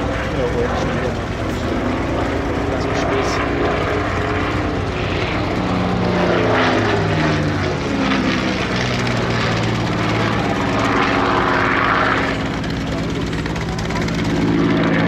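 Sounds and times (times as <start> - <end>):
fighter plane engine flying past: 0.0 - 15.0.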